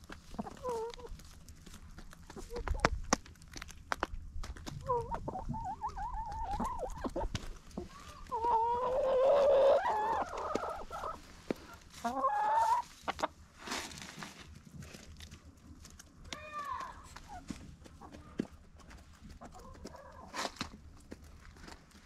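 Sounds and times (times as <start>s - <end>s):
hens clucking and trilling: 0.0s - 13.6s, 16.9s - 21.9s.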